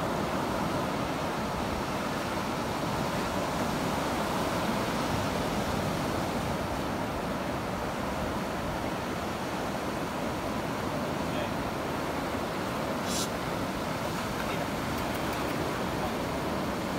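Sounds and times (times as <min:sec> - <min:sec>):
ocean surf breaking: 0:00.0 - 0:16.9.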